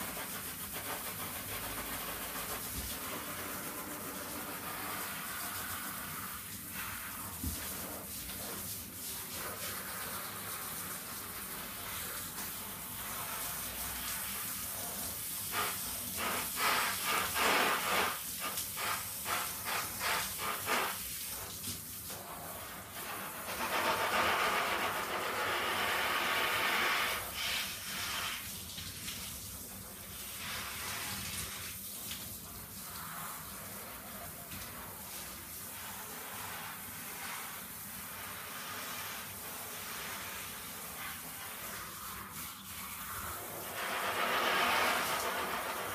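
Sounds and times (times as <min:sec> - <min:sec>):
shower head spraying water: 0:00.0 - 0:45.9.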